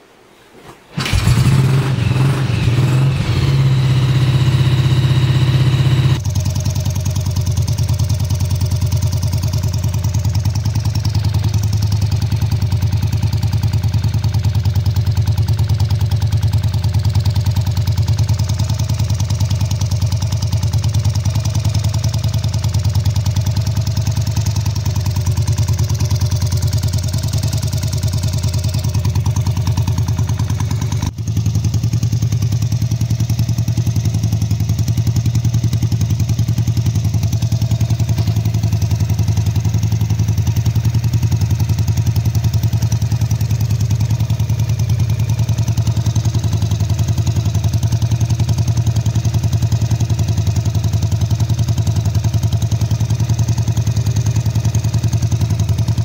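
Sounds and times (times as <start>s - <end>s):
unsilenced motorcycle engine running: 1.0s - 56.0s.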